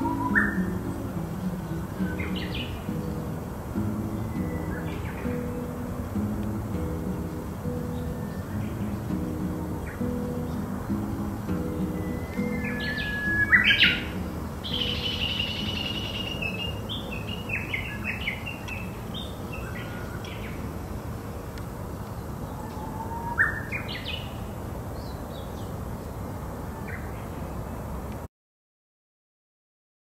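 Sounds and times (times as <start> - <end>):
small songbirds chirping: 0.0 - 27.8.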